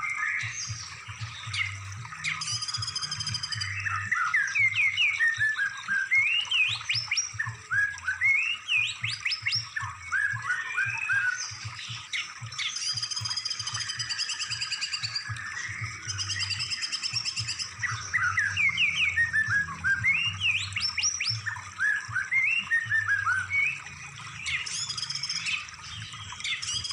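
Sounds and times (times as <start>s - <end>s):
bird trills: 0.0s - 26.9s
songbird whistling song: 0.0s - 26.9s.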